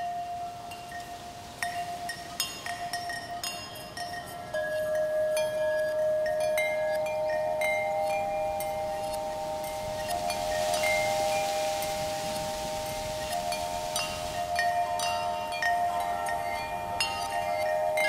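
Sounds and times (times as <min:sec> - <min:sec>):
light high tinkles: 0:00.0 - 0:18.0
metal chimes ringing: 0:00.0 - 0:18.0.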